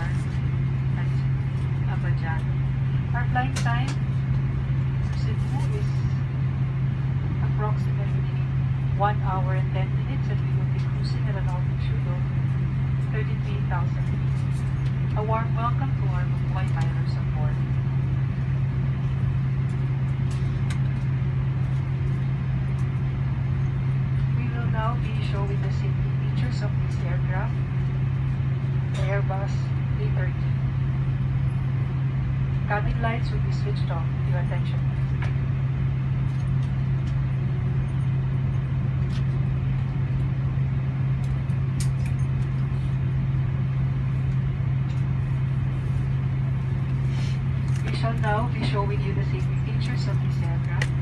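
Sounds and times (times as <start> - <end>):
airliner cabin drone: 0.0 - 51.0.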